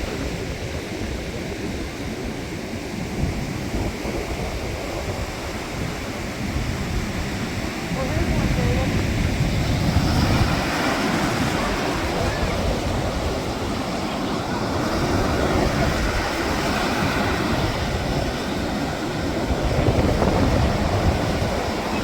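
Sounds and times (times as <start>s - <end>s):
ocean surf washing onto beach: 0.0s - 22.0s
wind buffeting microphone: 0.0s - 22.0s.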